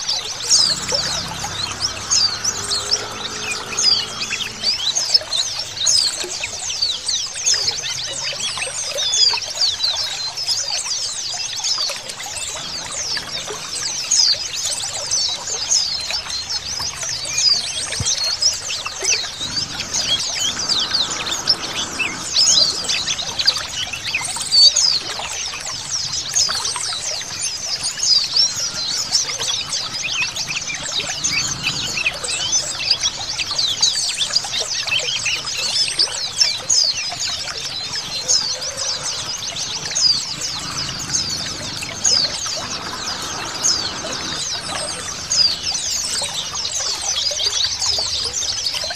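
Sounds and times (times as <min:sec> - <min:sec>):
birds chirping and twittering: 0:00.0 - 0:48.9
trickling water: 0:00.0 - 0:48.9.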